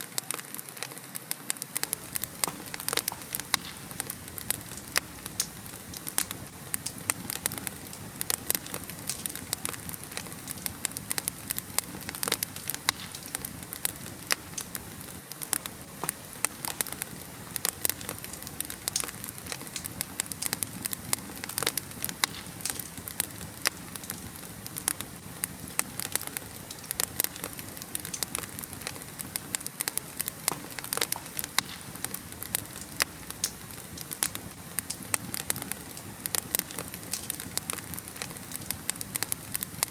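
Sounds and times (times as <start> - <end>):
fire crackling in fireplace: 1.8 - 39.9.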